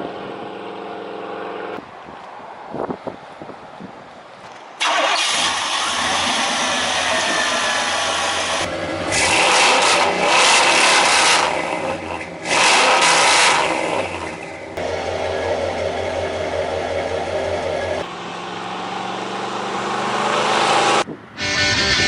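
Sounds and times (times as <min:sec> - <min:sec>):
pickup truck exhaust revving: 0:04.3 - 0:22.0.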